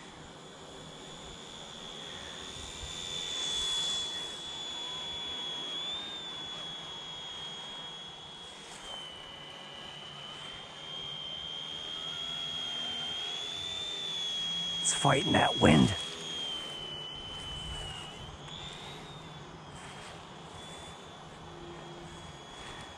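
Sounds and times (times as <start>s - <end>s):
small helicopter motor whining: 0.0s - 14.9s, 15.6s - 22.9s.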